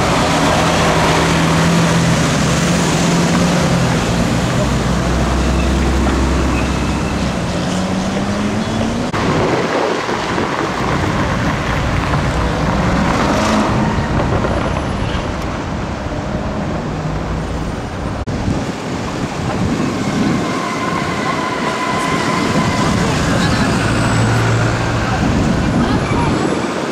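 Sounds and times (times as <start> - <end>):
cars driving on wet road: 0.0 - 26.9.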